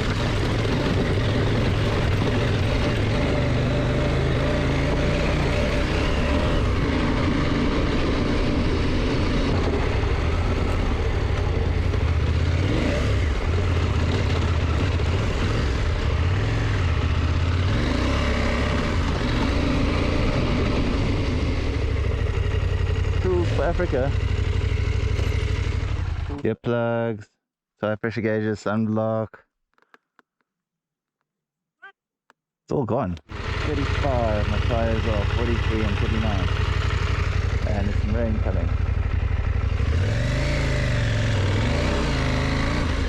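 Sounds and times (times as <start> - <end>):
wind and road noise: 0.0 - 26.3, 33.3 - 43.0
motorcycle engine running: 0.0 - 26.4, 33.3 - 43.0.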